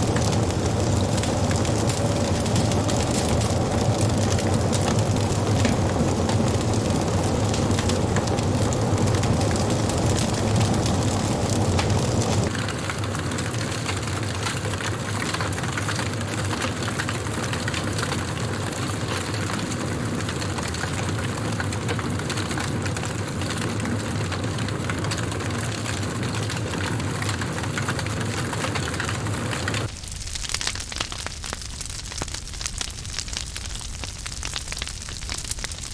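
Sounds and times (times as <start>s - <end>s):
low rumble of flames: 0.0s - 35.9s
wood fire crackling and popping: 0.0s - 35.9s.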